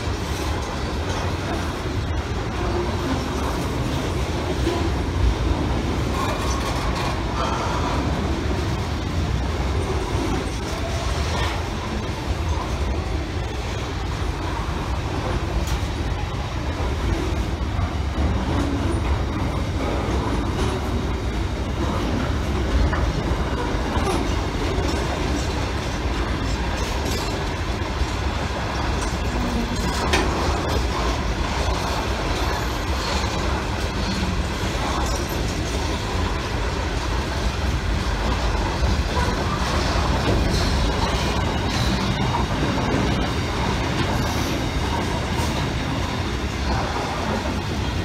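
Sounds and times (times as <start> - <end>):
sharp clicks of train wheels: 0.0 - 48.0
steel wheels rumbling on rails: 0.0 - 48.0.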